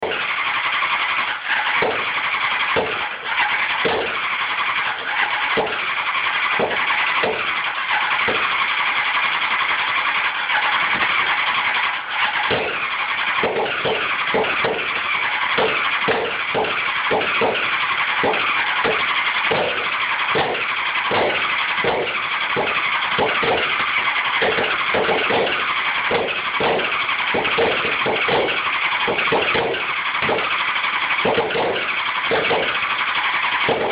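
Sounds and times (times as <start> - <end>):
electric starter cranking engine: 0.0 - 33.9.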